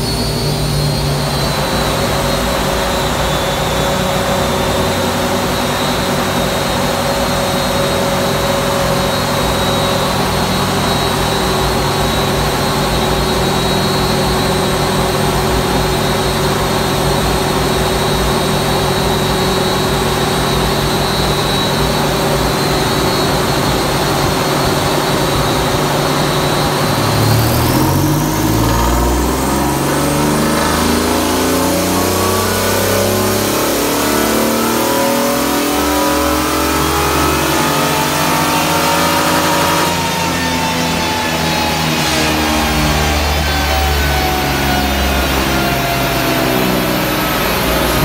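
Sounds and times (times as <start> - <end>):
car engine revving on dynamometer: 0.0 - 48.0.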